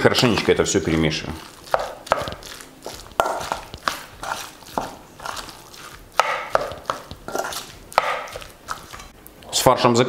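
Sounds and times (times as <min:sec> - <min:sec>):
spoon mixing wet minced meat: 0:00.0 - 0:09.4.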